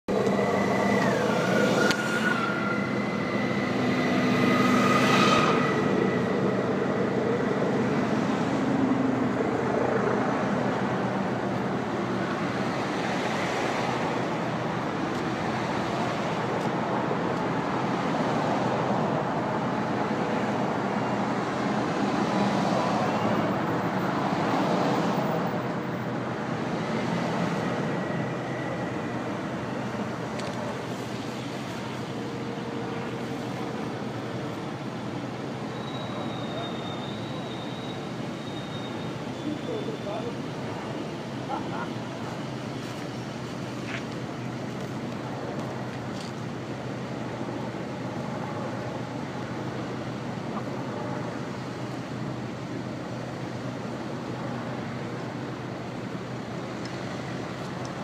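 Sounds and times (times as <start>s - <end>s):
cars passing on road: 0.0s - 58.0s.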